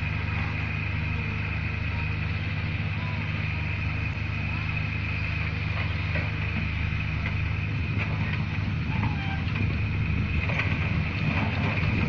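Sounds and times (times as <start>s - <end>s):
heavy diesel machinery drone: 0.0s - 12.0s.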